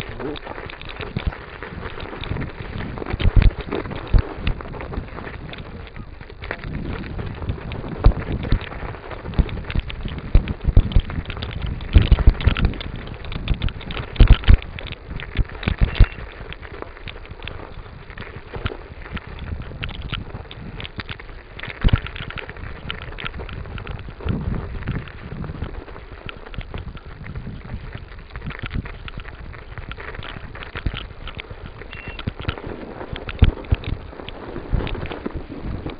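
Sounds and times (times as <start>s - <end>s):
bicycle rattling and knocking: 0.0s - 35.9s
steady rushing noise: 0.0s - 35.9s.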